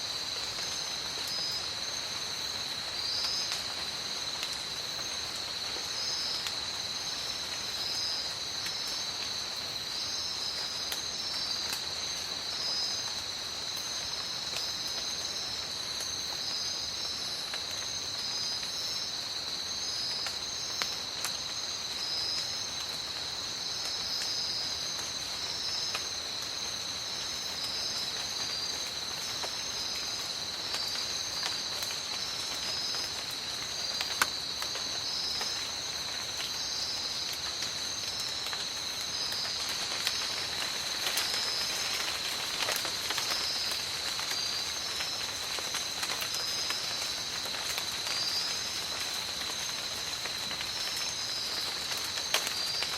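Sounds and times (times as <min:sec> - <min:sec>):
rain pattering: 0:00.0 - 0:52.9.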